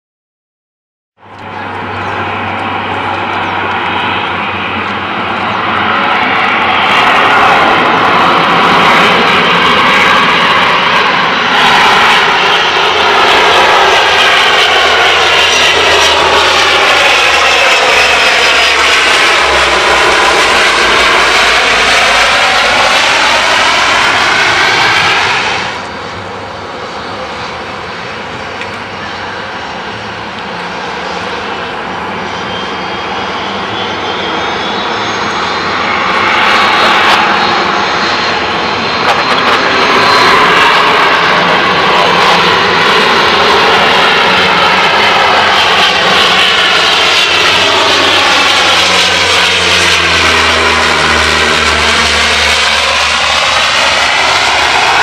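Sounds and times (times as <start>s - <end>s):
turboprop airliner landing: 1.2s - 55.0s
turboprop on approach: 1.2s - 55.0s.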